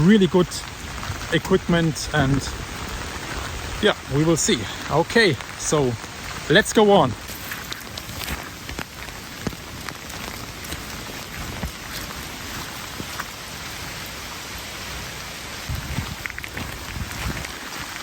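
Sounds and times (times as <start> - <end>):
raindrops ticking close by: 0.0 - 18.0
steady rain falling: 0.0 - 18.0.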